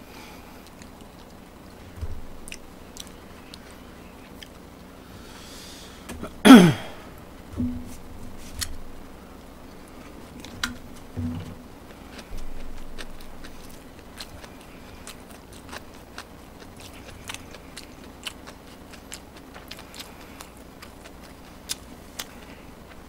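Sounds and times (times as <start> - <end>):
quiet chewing: 0.3 - 4.9, 7.6 - 23.0.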